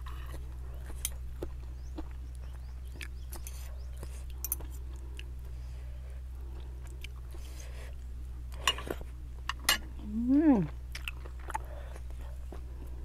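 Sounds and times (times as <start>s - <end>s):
soft wet chewing: 0.0s - 9.7s, 10.3s - 13.0s
steady low hum: 0.0s - 13.0s.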